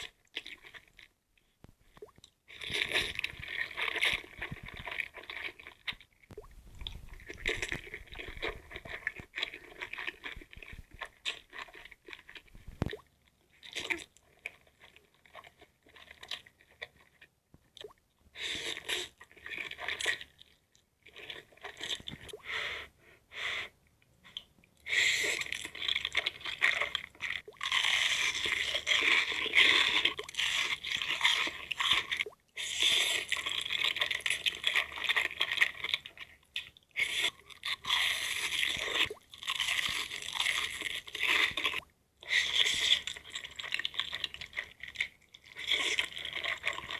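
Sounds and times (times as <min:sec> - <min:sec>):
person chewing crunchy food: 0:00.0 - 0:22.9, 0:24.3 - 0:46.9.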